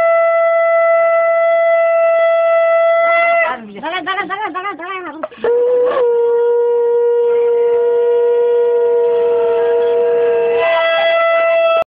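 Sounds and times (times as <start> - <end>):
conch shell blast: 0.0 - 3.5, 5.2 - 11.9.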